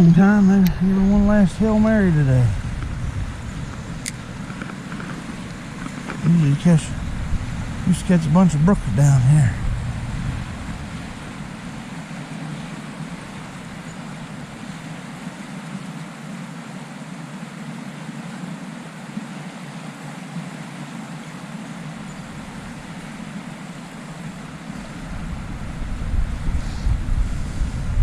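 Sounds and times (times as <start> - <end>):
stream running water: 0.0 - 28.0.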